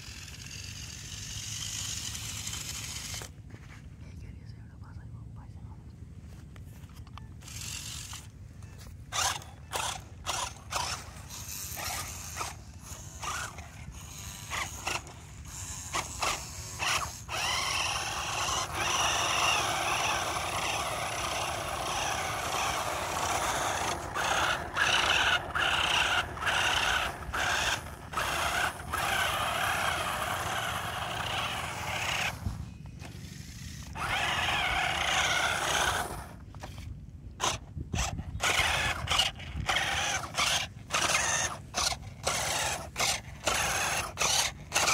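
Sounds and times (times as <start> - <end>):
toy car motors whining: 0.0 - 3.8, 6.3 - 44.9.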